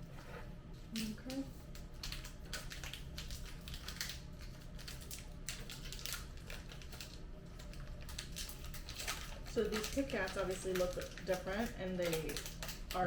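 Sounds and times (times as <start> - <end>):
snack wrapper crinkling: 1.7 - 13.0.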